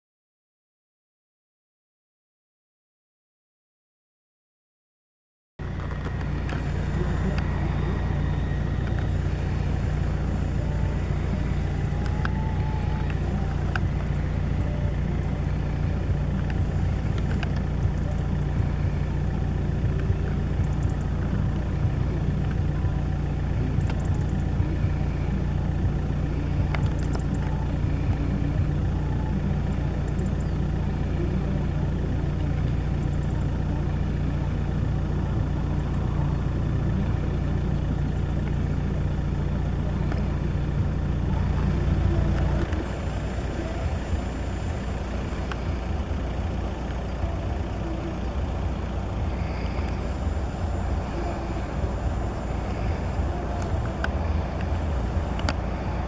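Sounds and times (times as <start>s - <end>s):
steady low rumble: 5.6s - 56.0s.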